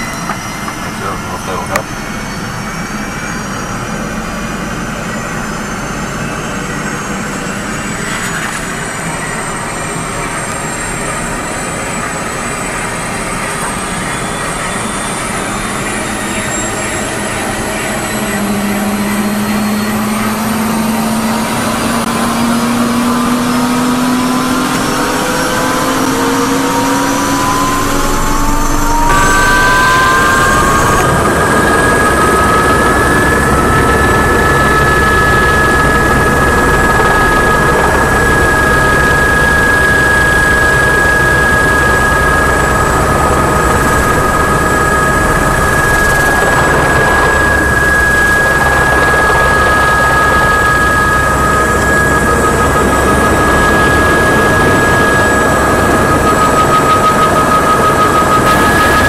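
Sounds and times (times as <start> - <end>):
fast low pulsing: 0.0 - 59.0
helicopter whine rising: 0.0 - 59.0.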